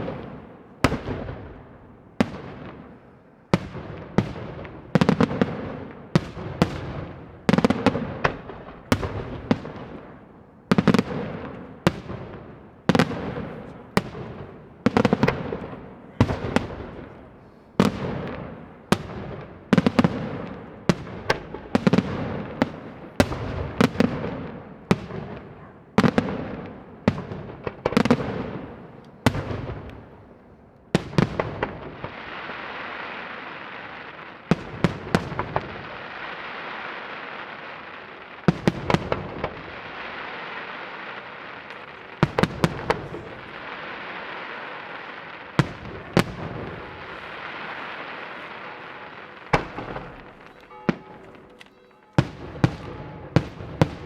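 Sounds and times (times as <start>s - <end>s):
fireworks bangs with rumbling echo: 0.0s - 54.0s.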